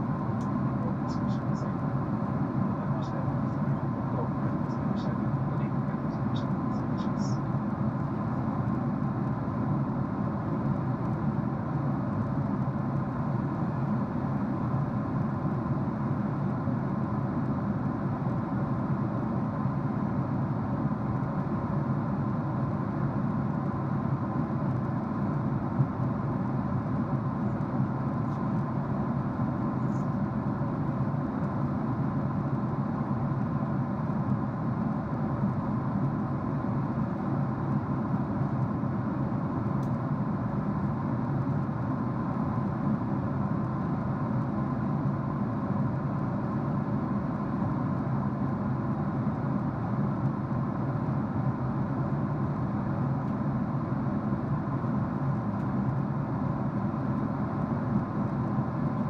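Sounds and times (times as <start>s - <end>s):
faint steady hum: 0.0s - 59.0s
jet engines droning: 0.0s - 59.0s.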